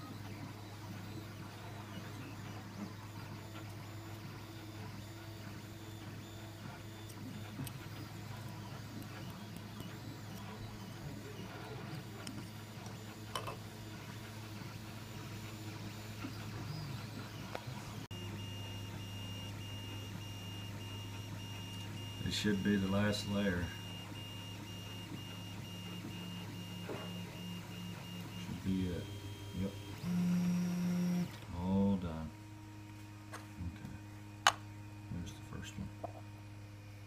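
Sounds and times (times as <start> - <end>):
stepper motor sounds: 0.0 - 32.0
printer motor and fan hum: 0.0 - 37.0.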